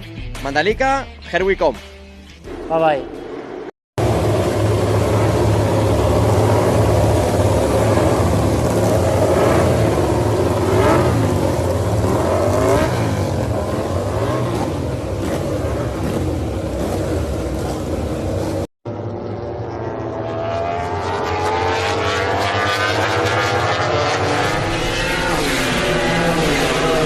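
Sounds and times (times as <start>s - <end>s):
racing motorcycles revving: 3.4s - 27.0s.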